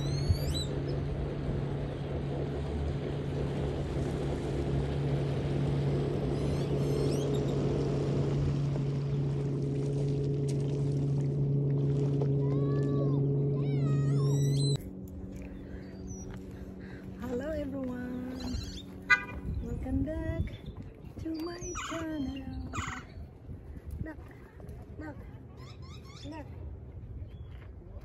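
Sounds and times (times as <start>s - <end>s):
jet ski engine idling: 0.0s - 27.2s.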